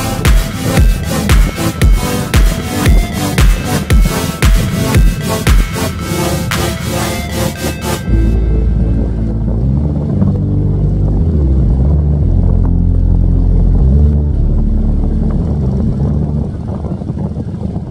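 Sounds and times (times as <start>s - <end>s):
ship engines droning: 0.0s - 17.9s.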